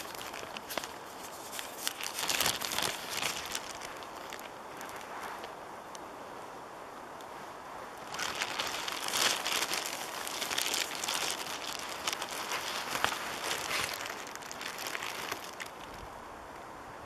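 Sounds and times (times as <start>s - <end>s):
microphone handling crackle: 0.0s - 5.6s, 8.0s - 16.1s.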